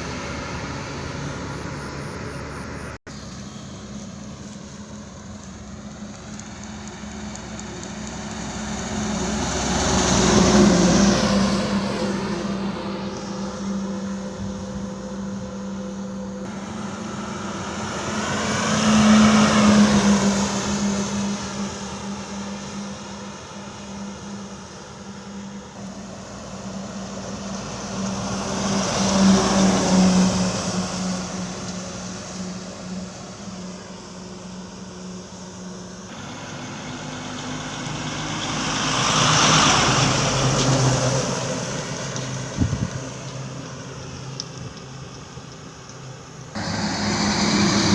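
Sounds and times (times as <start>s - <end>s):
road vehicles passing by: 0.0s - 47.9s
steady engine hum: 0.0s - 47.9s.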